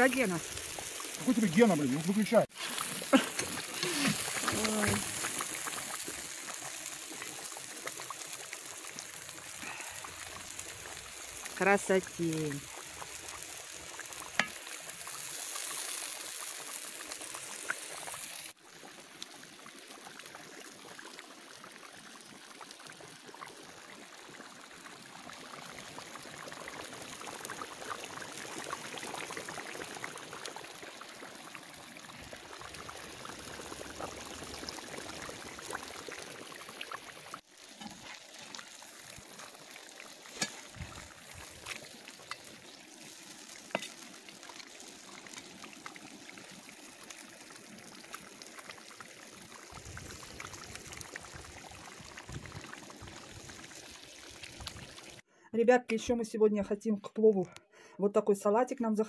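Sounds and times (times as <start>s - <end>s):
liquid boiling with hiss: 0.0s - 55.3s.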